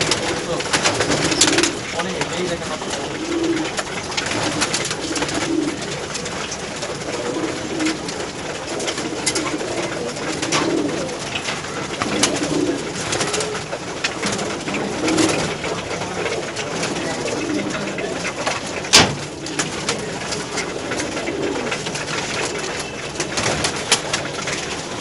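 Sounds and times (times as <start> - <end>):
beaks pecking at feeder: 0.0 - 25.0
pigeons cooing: 0.0 - 25.0.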